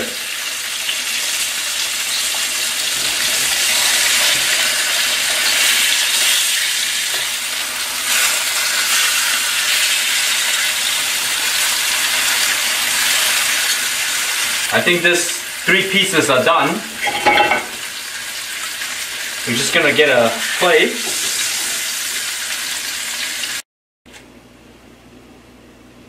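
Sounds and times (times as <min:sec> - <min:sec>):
meat sizzling in oil: 0:00.0 - 0:23.6.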